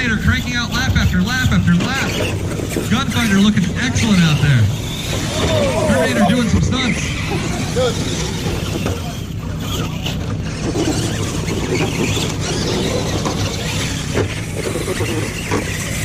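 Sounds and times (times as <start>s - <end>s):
faint voices: 0.0s - 16.0s
rc truck motors: 0.0s - 16.0s.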